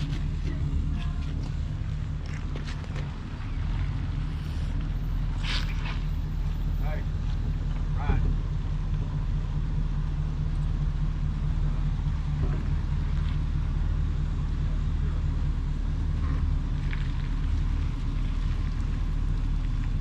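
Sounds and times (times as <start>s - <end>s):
engine and road drone in cabin: 0.0s - 20.0s.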